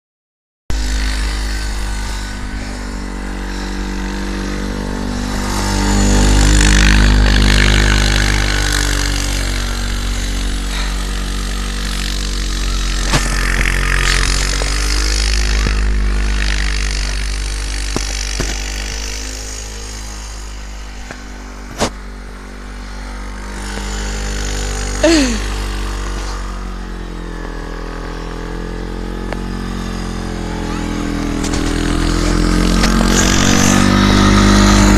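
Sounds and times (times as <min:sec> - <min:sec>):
engine running: 0:00.7 - 0:34.9.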